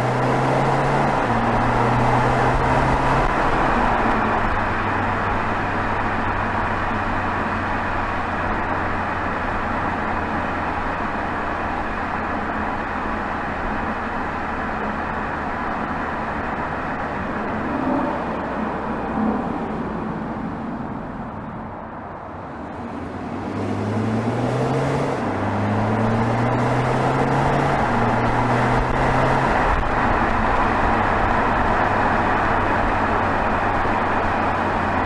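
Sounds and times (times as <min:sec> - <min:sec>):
car exhaust at steady cruise: 0:00.0 - 0:35.0
road and tyre noise: 0:00.0 - 0:35.0.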